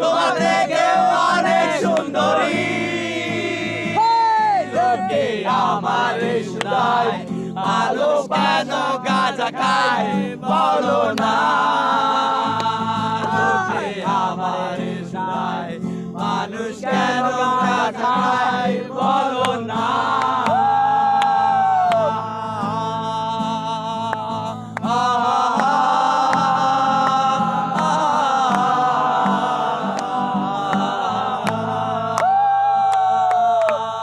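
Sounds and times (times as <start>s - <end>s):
group of people singing: 0.0s - 34.0s.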